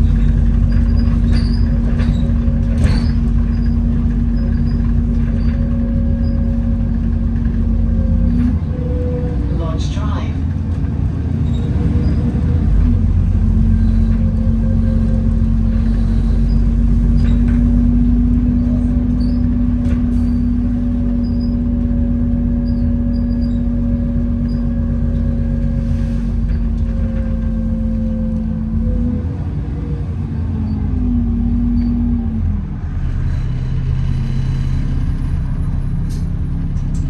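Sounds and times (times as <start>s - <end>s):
bus engine rumble: 0.0s - 37.0s
bus steady whine: 0.0s - 37.0s.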